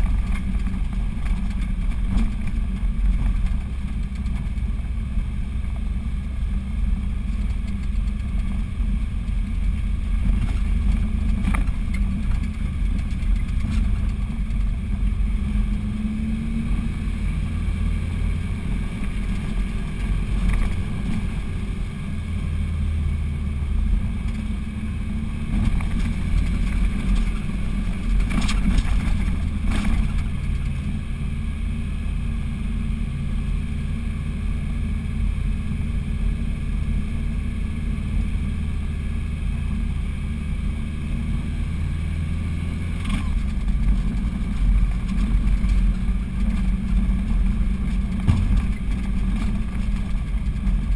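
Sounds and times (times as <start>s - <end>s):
vehicle engine and road drone: 0.0s - 50.9s.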